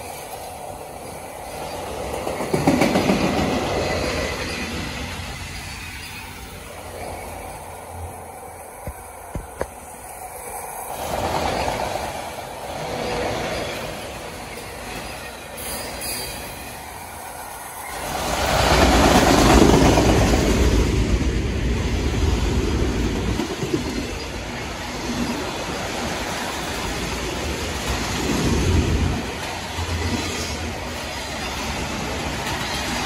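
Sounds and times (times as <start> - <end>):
train rumbling past: 0.0 - 33.0.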